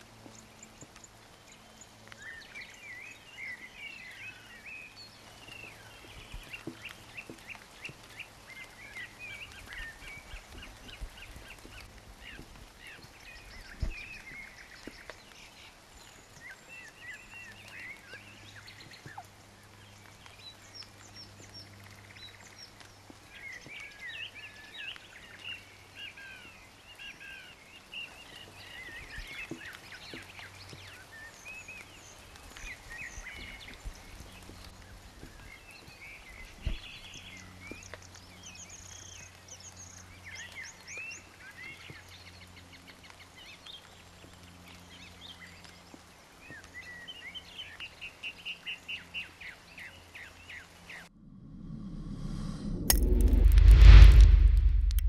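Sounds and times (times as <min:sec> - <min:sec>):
rain falling: 0:00.0 - 0:02.8, 0:03.7 - 0:48.2.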